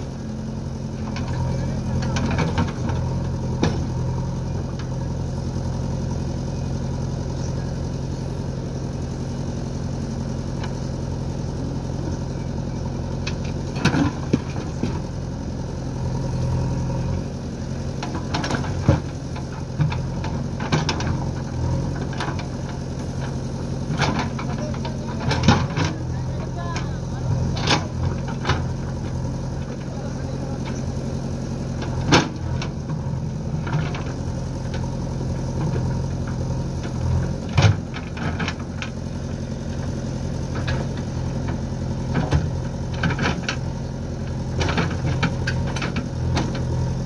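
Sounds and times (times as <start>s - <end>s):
diesel engines running: 0.0s - 47.0s.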